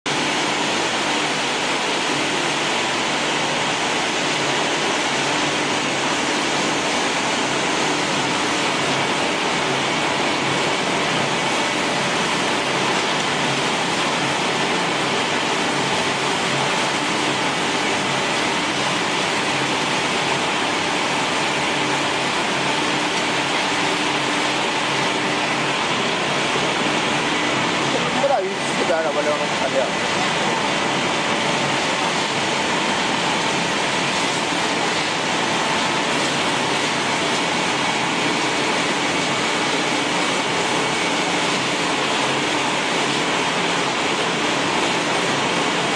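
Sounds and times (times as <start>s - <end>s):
pellet machine running: 0.1s - 45.9s.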